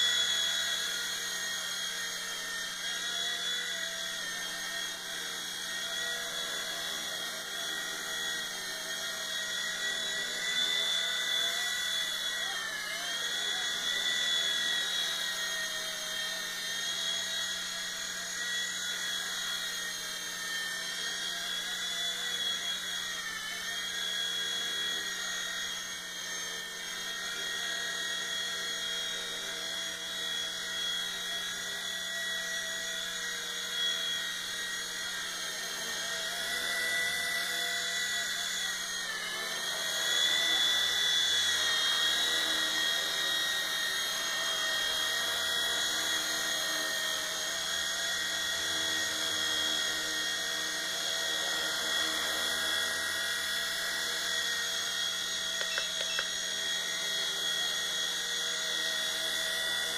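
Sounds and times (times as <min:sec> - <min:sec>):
toy helicopter motor whine: 0:00.0 - 0:59.9.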